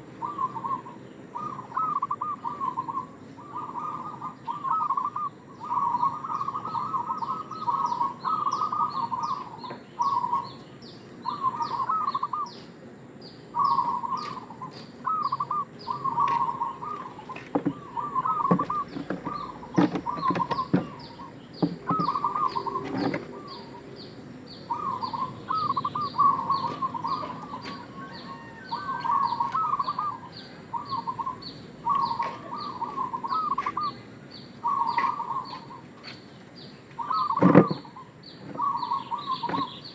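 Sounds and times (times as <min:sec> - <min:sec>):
dove cooing in trilled phrases: 0:00.0 - 0:10.6, 0:11.2 - 0:12.6, 0:13.5 - 0:36.1, 0:36.9 - 0:39.9.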